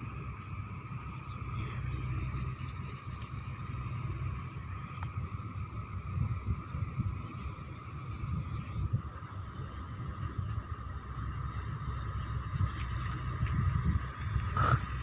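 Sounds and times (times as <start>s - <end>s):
deep engine rumble: 0.0s - 15.0s
high machinery whine: 0.0s - 15.0s.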